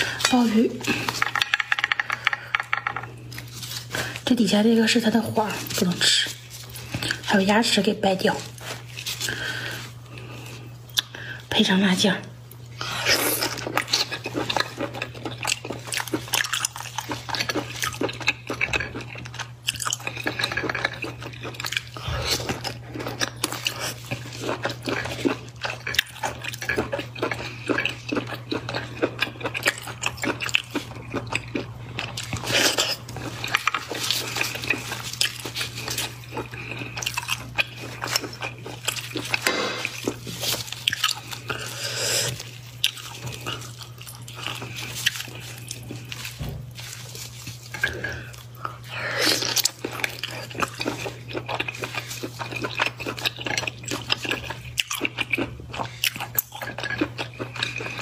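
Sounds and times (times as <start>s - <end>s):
wet chewing and mouth sounds: 0.0s - 11.4s, 12.4s - 58.0s
steady low hum: 0.0s - 58.0s.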